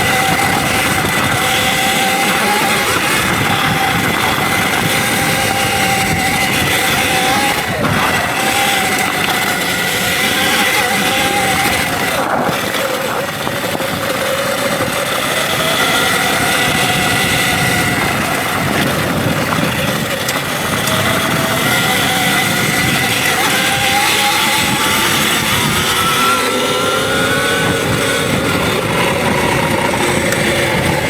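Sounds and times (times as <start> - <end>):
electric motor whining: 0.0 - 31.0
rushing wind noise: 0.0 - 31.0.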